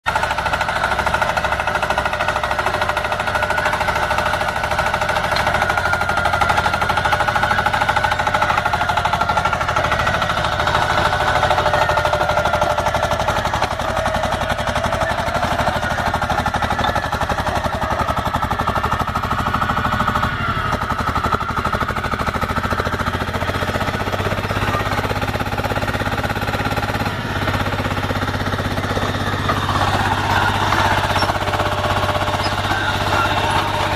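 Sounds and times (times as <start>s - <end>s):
drilling rig hammering: 0.1s - 33.9s.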